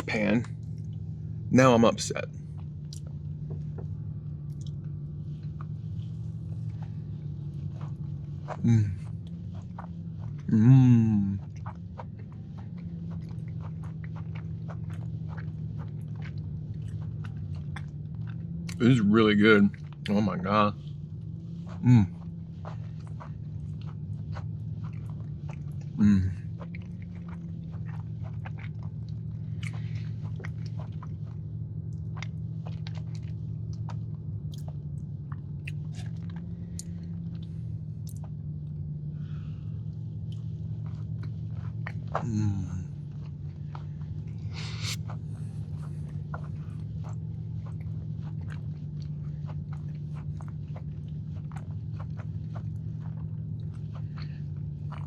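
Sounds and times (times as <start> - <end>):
steady low hum: 0.0 - 55.0
close-up chewing mouth clicks: 2.5 - 18.9, 19.7 - 20.2, 20.8 - 55.0.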